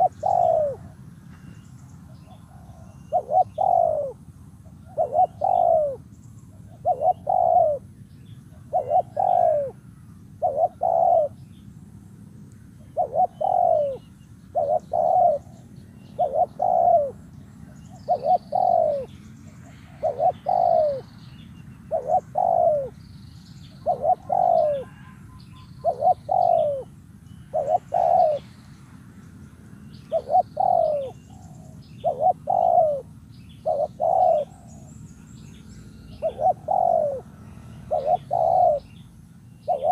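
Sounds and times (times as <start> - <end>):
dove cooing: 0.0 - 1.0, 2.0 - 11.4, 12.9 - 21.2, 21.8 - 23.0, 23.8 - 28.5, 30.1 - 39.0, 39.6 - 39.9.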